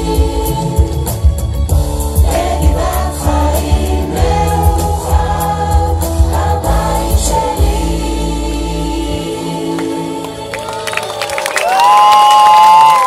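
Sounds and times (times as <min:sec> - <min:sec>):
group of voices singing: 0:00.0 - 0:11.3.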